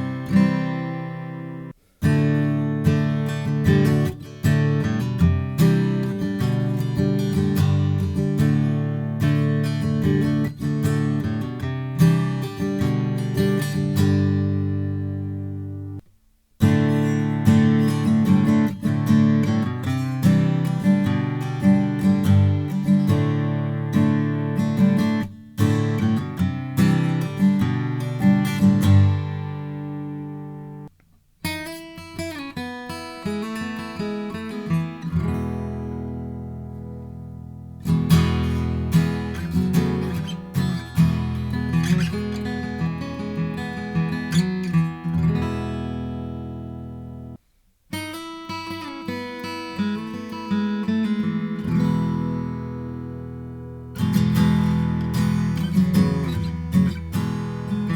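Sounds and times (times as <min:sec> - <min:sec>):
acoustic guitar playing chords: 0:00.0 - 0:57.9.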